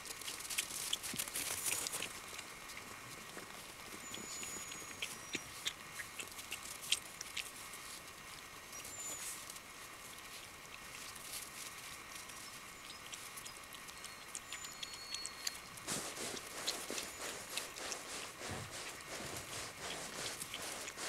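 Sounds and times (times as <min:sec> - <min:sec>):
puppies crunching snow: 0:00.1 - 0:08.2, 0:08.8 - 0:21.0.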